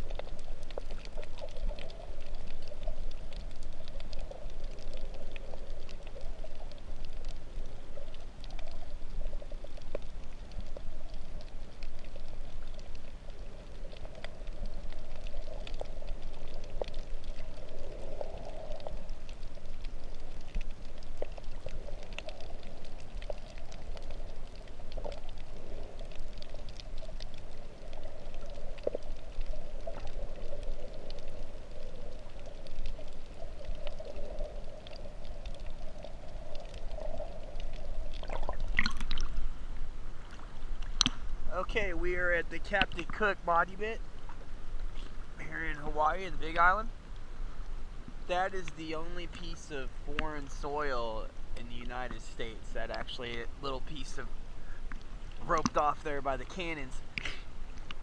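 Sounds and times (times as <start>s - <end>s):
faint clicks: 0.0s - 39.5s, 40.2s - 41.4s, 42.1s - 43.3s, 48.0s - 58.0s
muffled underwater water wash: 0.0s - 58.0s
water bubbling: 0.0s - 58.0s.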